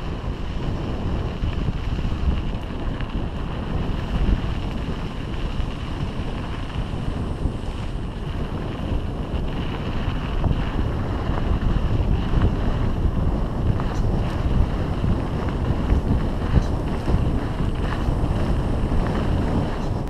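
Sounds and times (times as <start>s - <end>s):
rumbling bike ride noise: 0.0s - 20.0s
wind buffeting microphone: 0.0s - 20.0s.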